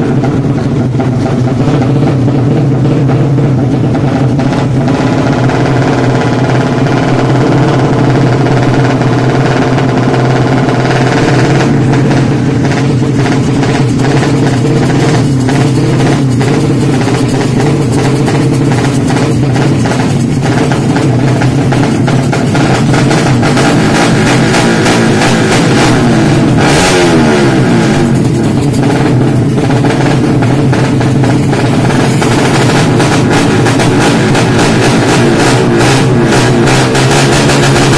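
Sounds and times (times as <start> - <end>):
motorcycle engine running: 0.0 - 37.9
rapid rattle: 0.0 - 37.9.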